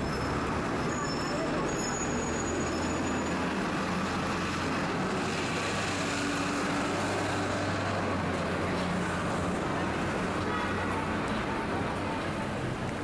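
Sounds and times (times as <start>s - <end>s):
passing vehicles: 0.0s - 13.0s.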